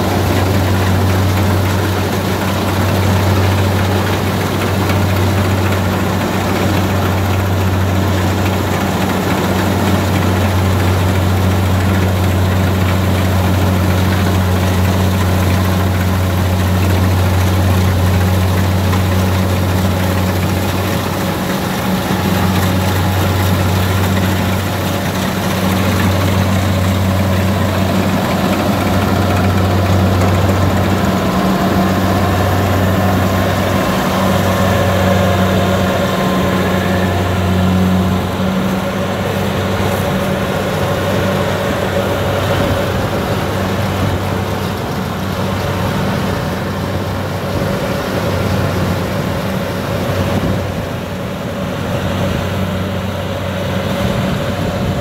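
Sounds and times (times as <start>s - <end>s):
combine harvester engine running: 0.0s - 55.0s
mechanical rush of threshing: 0.0s - 55.0s.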